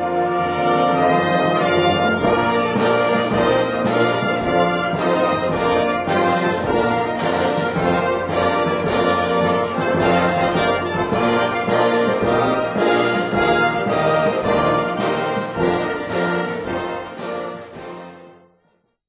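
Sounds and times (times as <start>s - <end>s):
orchestral music led by brass: 0.0s - 18.8s.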